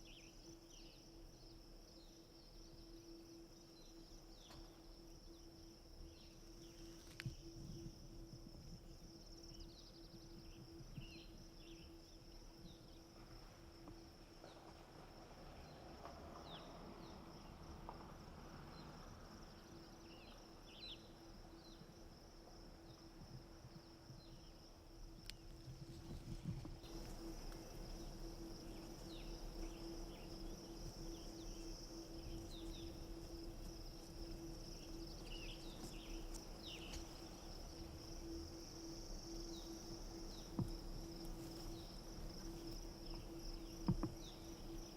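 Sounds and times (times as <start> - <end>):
high-pitched insect drone: 0.0 - 14.6, 18.6 - 44.9.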